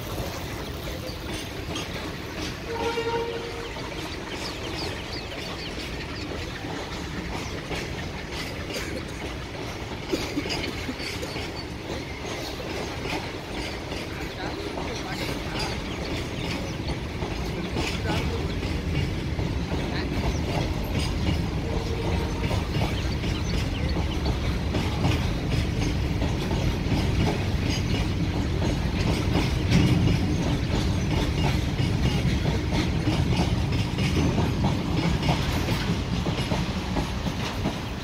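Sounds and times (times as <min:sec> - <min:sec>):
freight wagons rumbling past: 0:00.0 - 0:38.0.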